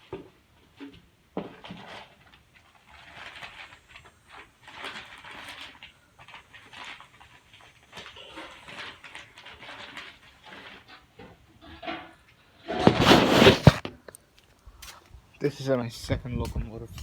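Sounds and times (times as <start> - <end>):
rustling and scraping: 0.0 - 15.1.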